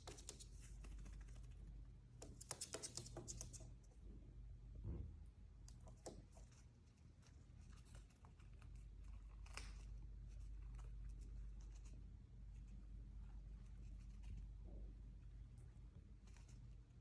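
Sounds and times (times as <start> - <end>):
faint clicks and scratches: 0.0 - 4.1, 5.6 - 17.0
low steady hum: 0.0 - 17.0.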